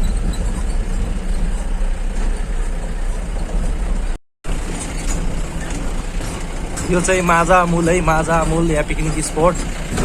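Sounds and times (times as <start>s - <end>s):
road noise on bumpy dirt road: 0.0s - 10.0s
vehicle engine rumble: 0.0s - 10.0s.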